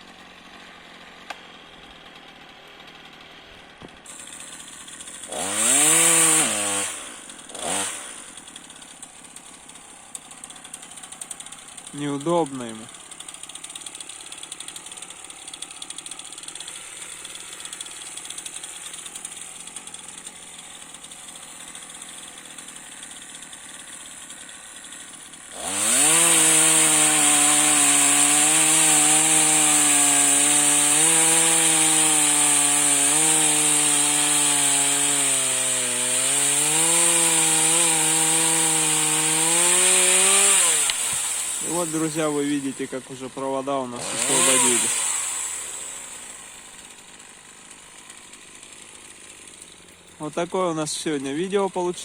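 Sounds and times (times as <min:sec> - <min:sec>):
chainsaw cutting branches: 0:00.0 - 0:52.0.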